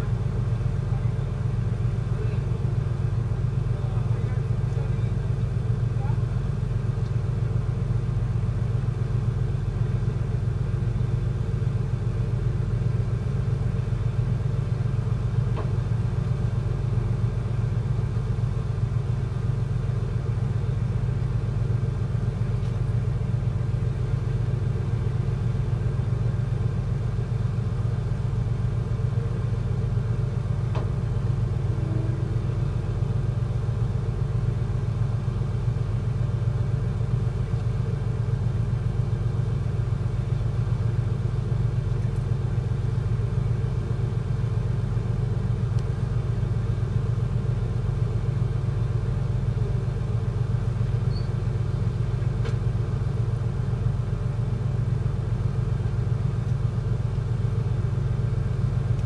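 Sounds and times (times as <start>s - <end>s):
ship diesel engine rumble: 0.0s - 59.0s.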